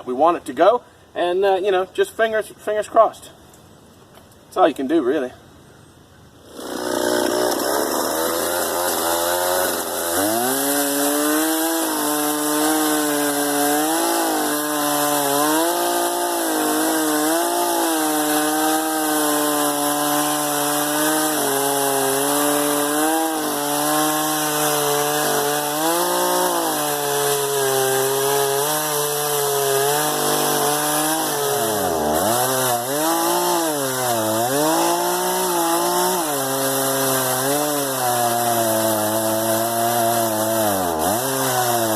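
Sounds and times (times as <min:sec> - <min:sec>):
chainsaw cutting into tree trunk: 0:06.4 - 0:41.9.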